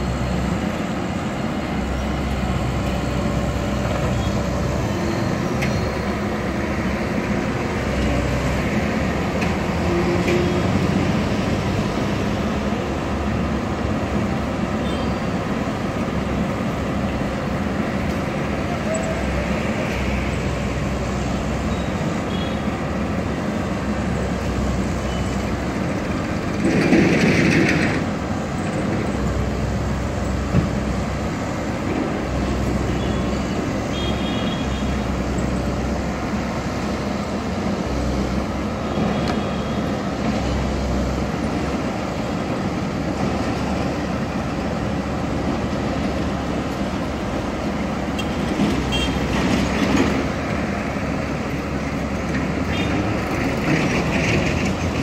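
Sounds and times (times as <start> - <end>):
excavator diesel engine working: 0.0 - 55.0
road traffic: 0.0 - 55.0.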